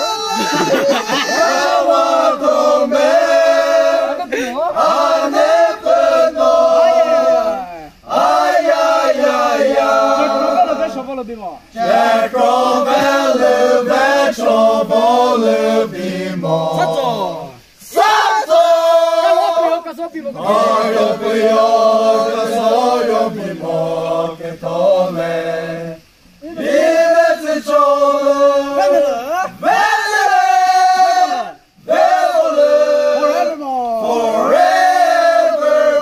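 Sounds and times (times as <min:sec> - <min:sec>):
men singing without instruments: 0:00.0 - 0:36.0.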